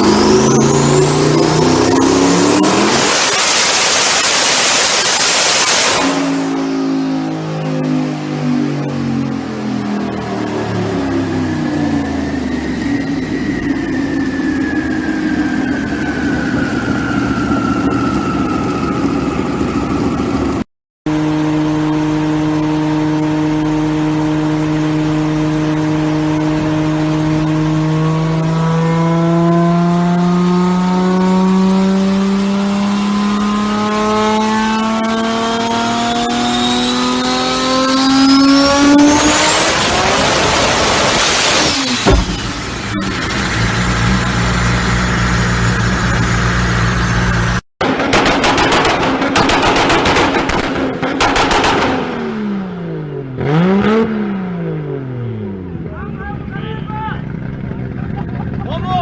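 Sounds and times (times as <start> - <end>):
engine revving high: 0.0 - 47.7, 49.4 - 56.0
car engine running under load: 0.0 - 59.0.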